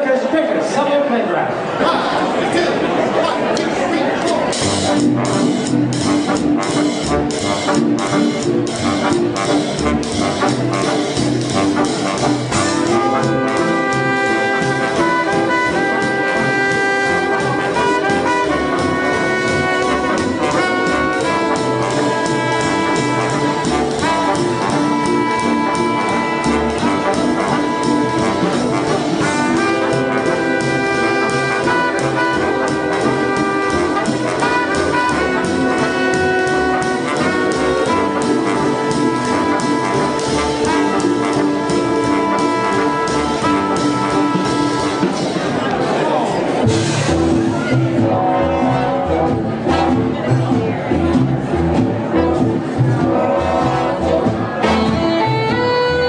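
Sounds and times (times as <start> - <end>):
big-band swing jazz: 0.0 - 56.0
horns playing held chords: 4.6 - 45.4, 46.8 - 50.5, 52.1 - 56.0.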